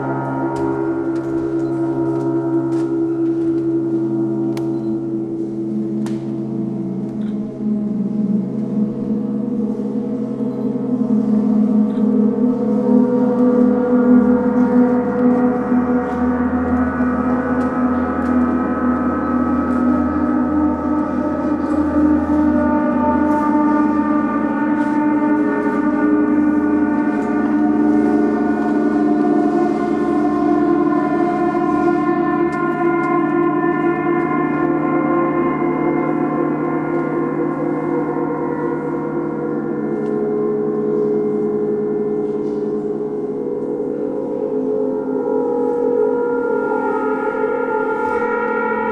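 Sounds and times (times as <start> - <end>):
gongs ringing: 0.0 - 48.9.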